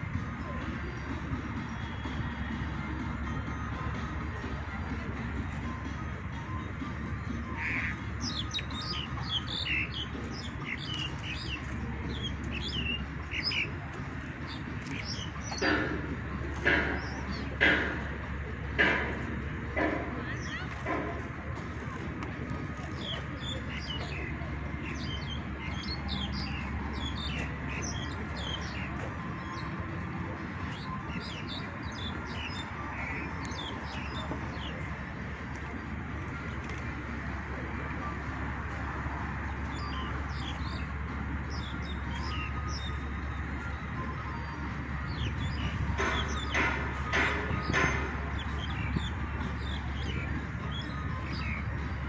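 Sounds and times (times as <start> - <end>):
low outdoor rumble: 0.0 - 52.0
small birds chirping: 5.3 - 52.0.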